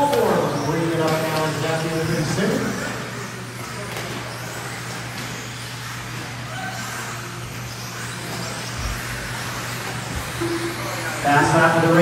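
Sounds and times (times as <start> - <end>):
faint motor whines: 0.0 - 12.0
rc cars tyre and drivetrain noise: 0.0 - 12.0.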